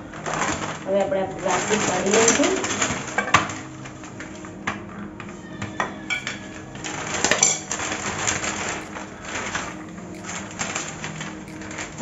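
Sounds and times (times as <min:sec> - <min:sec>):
plastic sheet crinkling: 0:00.0 - 0:05.4, 0:06.2 - 0:12.0.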